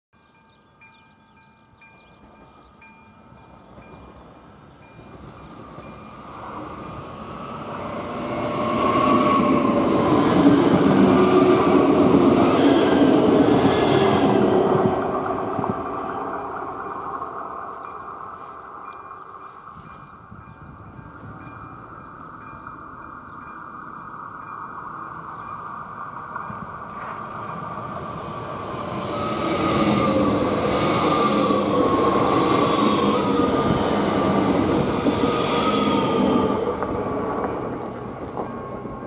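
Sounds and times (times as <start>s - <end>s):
train passing rumble: 0.3s - 39.0s.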